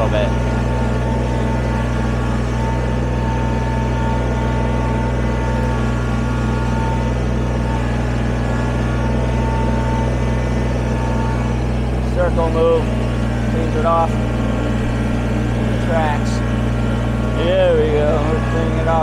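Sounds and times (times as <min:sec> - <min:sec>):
steady high whine: 0:00.0 - 0:19.0
tractor diesel engine running: 0:00.0 - 0:19.0.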